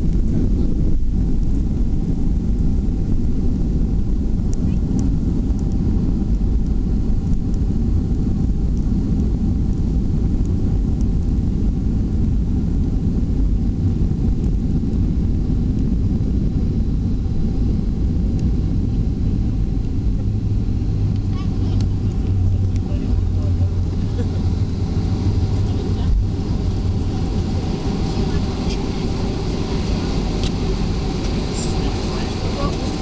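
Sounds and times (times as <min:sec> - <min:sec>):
airplane cabin low rumble: 0:00.0 - 0:33.0.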